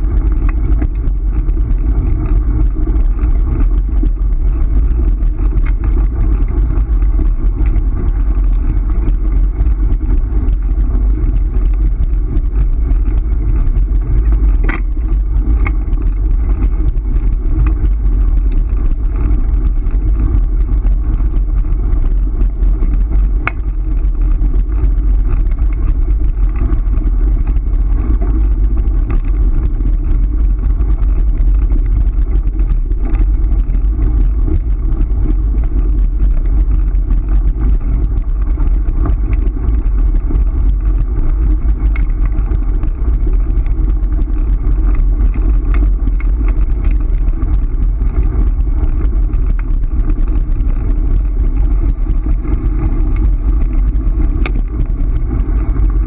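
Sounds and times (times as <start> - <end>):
wheels rolling over gravel: 0.0 - 56.0.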